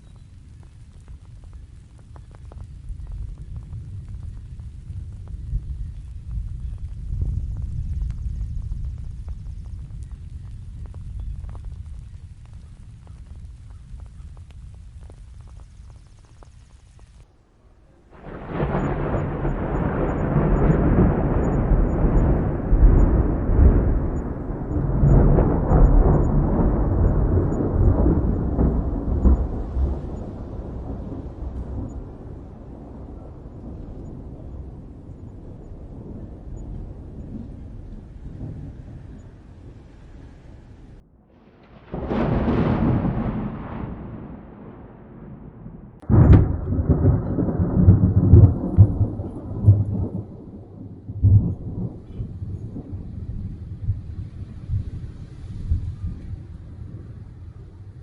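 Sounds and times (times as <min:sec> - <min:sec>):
thunder rumbling: 0:00.0 - 0:58.0.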